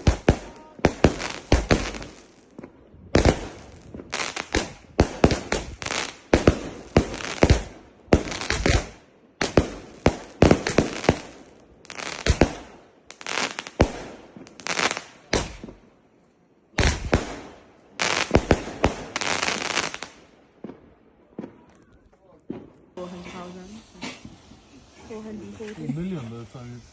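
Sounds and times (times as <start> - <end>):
fireworks bangs and crackles: 0.0 - 15.9, 16.7 - 26.3.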